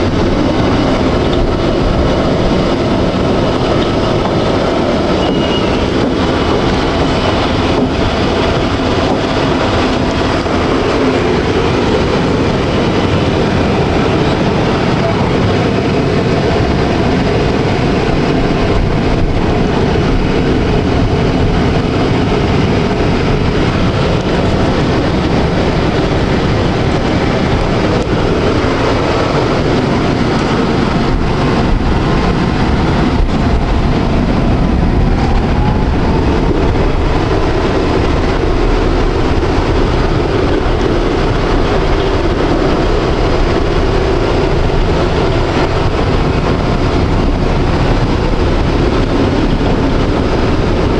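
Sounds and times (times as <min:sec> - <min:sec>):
tram wheels rumbling on rail: 0:00.0 - 0:50.9.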